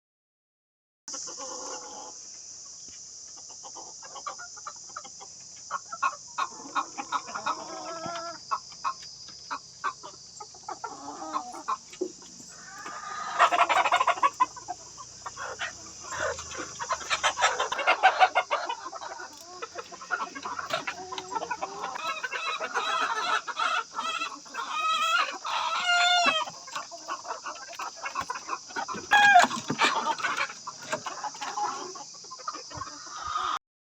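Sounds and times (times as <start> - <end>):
chickens clucking and squawking: 1.1 - 33.6
steady high-pitched hiss: 1.1 - 33.6.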